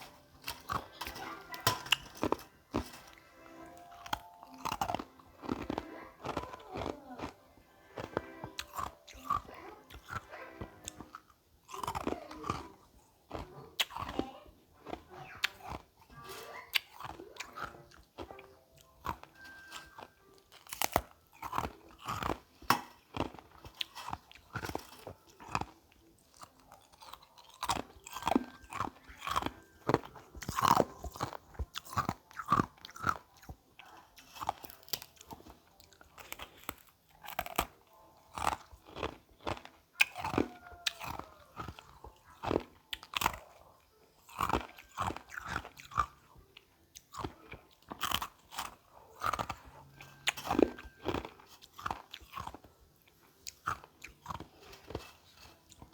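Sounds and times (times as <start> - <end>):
crunching and chewing ice: 0.0 - 55.9.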